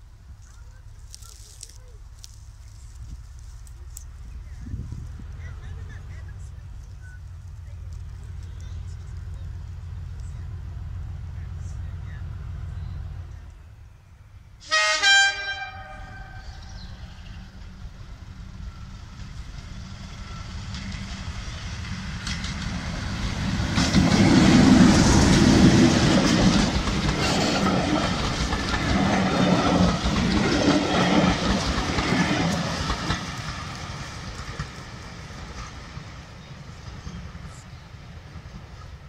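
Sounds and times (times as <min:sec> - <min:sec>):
wheels clicking over rail joints: 0:00.0 - 0:11.2, 0:18.7 - 0:39.0
diesel locomotive engine: 0:00.0 - 0:39.0.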